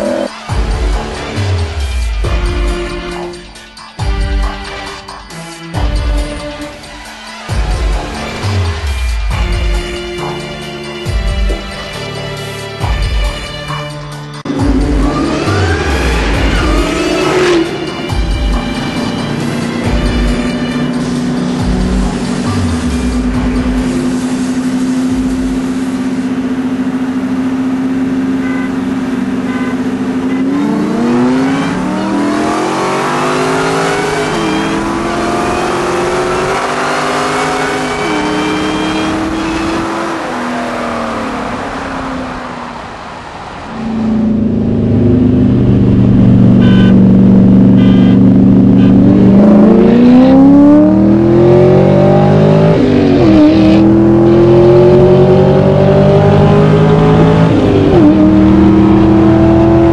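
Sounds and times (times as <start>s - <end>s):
sports car engines racing: 0.0s - 3.5s, 7.6s - 59.9s.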